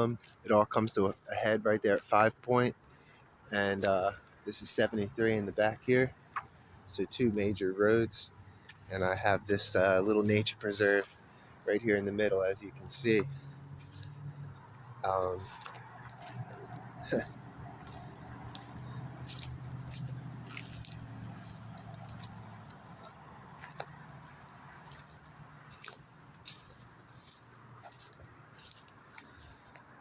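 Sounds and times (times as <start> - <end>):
distant road traffic rumble: 0.0 - 30.0
insect chorus drone: 0.0 - 30.0.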